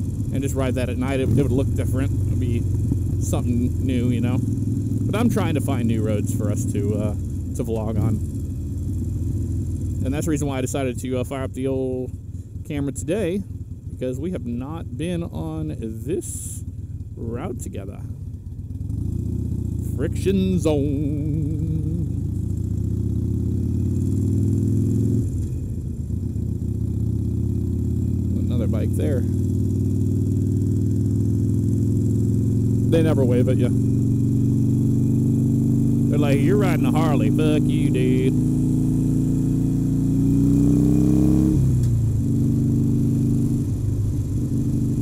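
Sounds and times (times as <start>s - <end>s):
motorcycle engine cruising: 0.0s - 45.0s.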